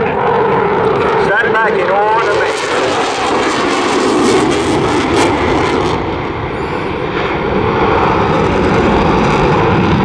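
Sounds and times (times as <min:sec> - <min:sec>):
loud jet noise: 0:00.0 - 0:10.0.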